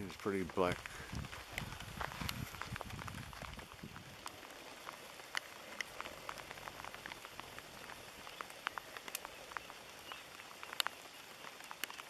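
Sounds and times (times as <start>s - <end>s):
light rain on a pond: 0.0s - 12.0s
sharp drip ticks: 0.0s - 12.0s.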